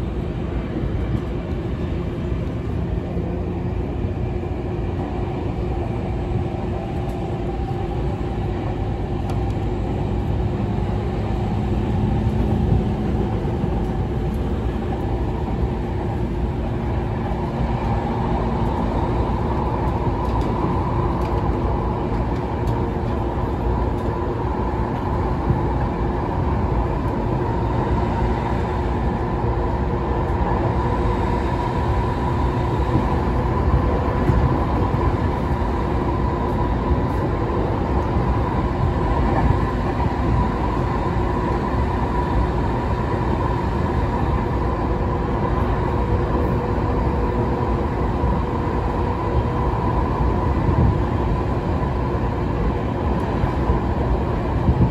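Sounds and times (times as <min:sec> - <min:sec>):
train motor hum: 0:00.0 - 0:54.9
train wheels rumbling on rails: 0:00.0 - 0:54.9.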